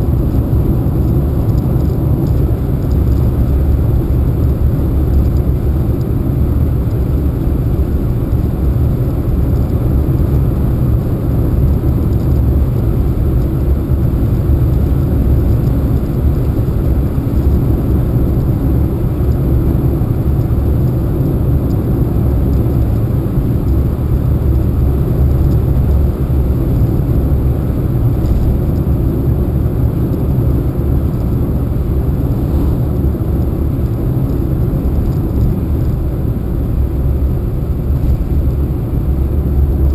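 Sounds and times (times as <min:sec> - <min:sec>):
car driving on road from inside: 0:00.0 - 0:39.9.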